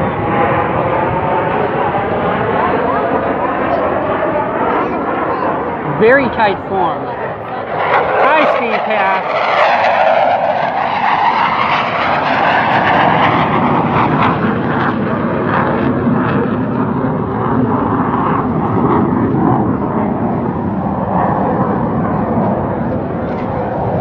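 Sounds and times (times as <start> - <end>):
military jets flying past: 0.0 - 24.0.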